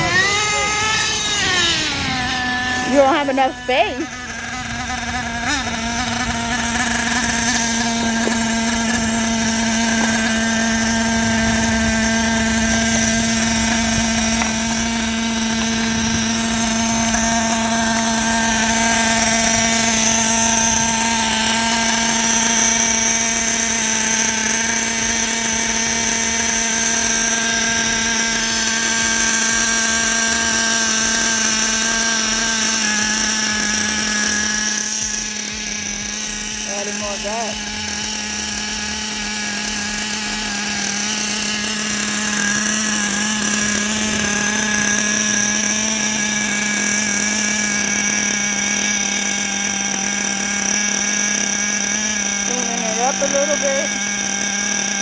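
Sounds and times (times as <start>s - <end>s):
rc car glow engine running: 0.0s - 55.0s.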